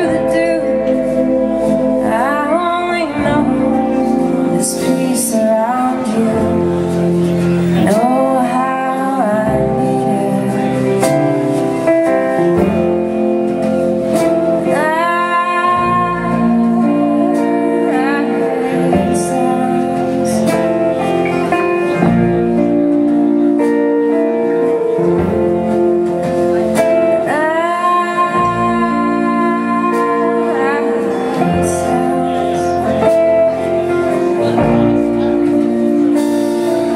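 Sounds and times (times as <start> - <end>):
guitar chords: 0.0 - 36.9
live country-folk band: 0.0 - 36.9
sliding lead guitar line: 0.0 - 36.9.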